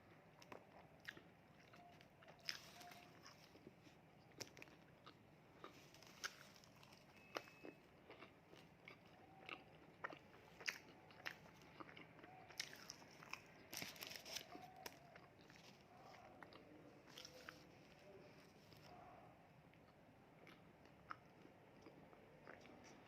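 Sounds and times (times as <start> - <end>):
person crunching and chewing food: 0.3 - 19.0, 19.8 - 23.0.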